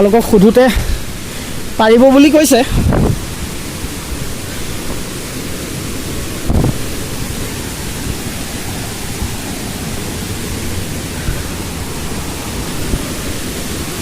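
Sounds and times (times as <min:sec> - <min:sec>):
water rushing from waterfall: 0:00.0 - 0:14.0.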